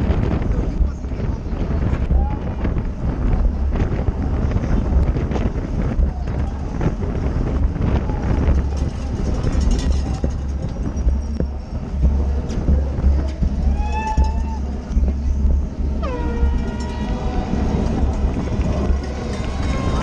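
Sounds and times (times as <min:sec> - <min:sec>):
bike rattles and clicks: 0:00.0 - 0:20.0
wind buffeting microphone: 0:00.0 - 0:20.0.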